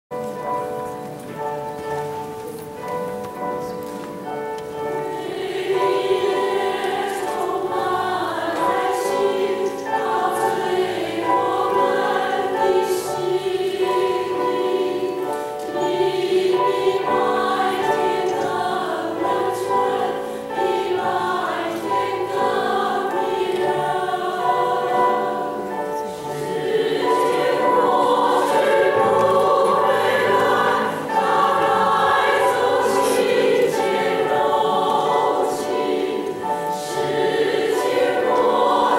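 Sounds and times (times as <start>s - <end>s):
women's choir singing: 0.1s - 38.9s.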